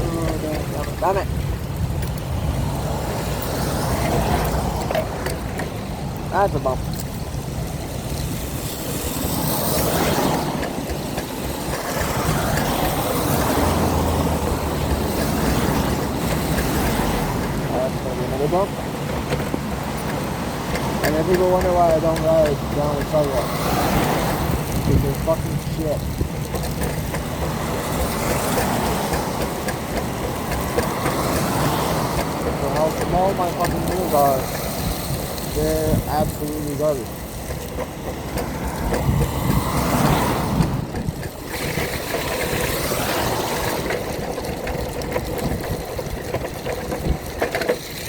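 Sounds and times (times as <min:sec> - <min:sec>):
rain: 0:00.0 - 0:48.0
wheels on wet road: 0:00.0 - 0:48.0.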